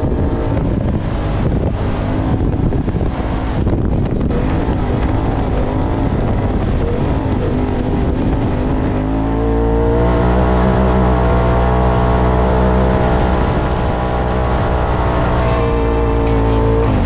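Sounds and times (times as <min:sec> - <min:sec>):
vehicle engine revving: 0:00.0 - 0:17.0
wind noise: 0:00.0 - 0:17.0.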